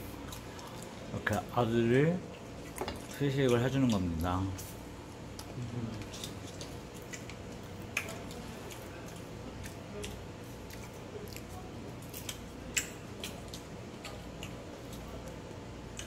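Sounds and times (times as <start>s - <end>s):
faint low hum: 0.0s - 16.0s
crunching food: 2.4s - 16.0s.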